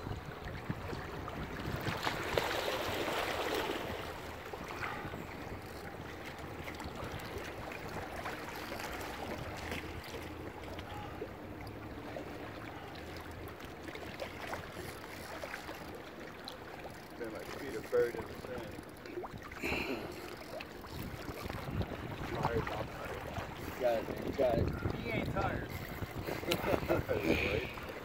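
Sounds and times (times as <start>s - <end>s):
rushing water: 0.0s - 28.0s
wind: 0.0s - 28.0s.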